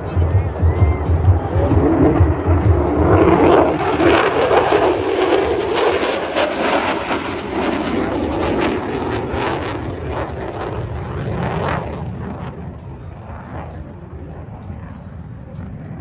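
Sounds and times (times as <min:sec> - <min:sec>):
plane flying by: 0:00.0 - 0:16.0.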